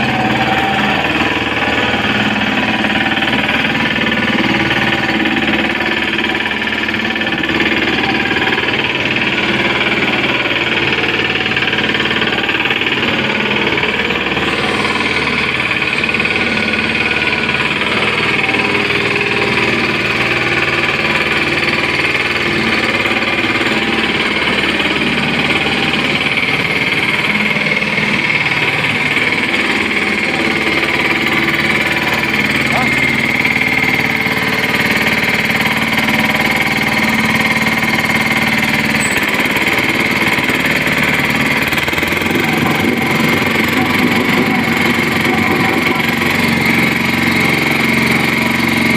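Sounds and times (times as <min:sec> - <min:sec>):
road roller engine running: 0:00.0 - 0:48.9.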